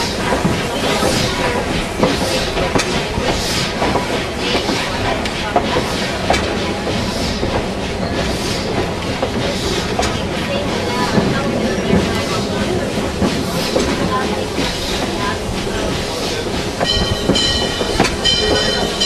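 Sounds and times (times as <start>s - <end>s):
steam train rumbling and rattling: 0.0s - 19.0s
wheels clicking on rails: 0.0s - 19.0s.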